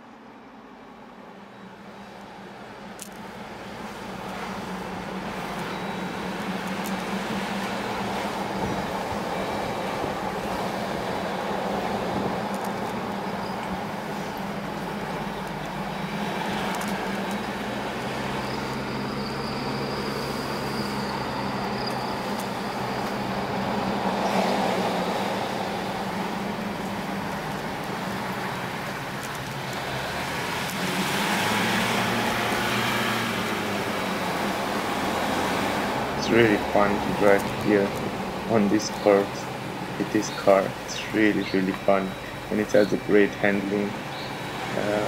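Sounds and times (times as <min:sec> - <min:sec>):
road and wind noise: 0:00.0 - 0:45.0
car engine running: 0:01.8 - 0:45.0.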